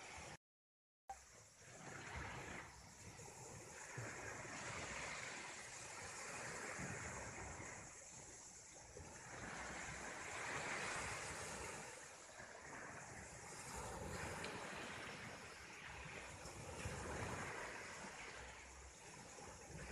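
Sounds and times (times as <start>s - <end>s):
sea waves washing on shore: 0.0s - 0.4s, 1.2s - 19.9s.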